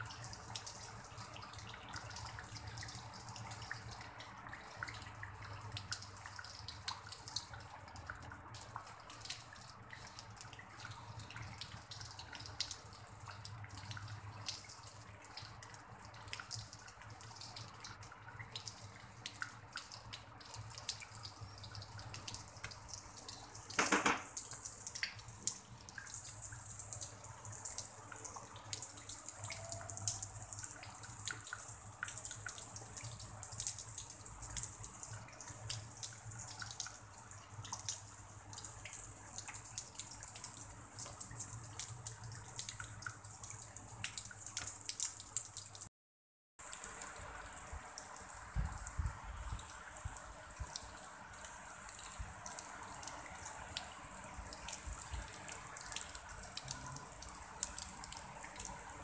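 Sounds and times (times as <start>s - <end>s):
drizzle falling on pond and grass: 0.0s - 45.9s, 46.6s - 59.0s.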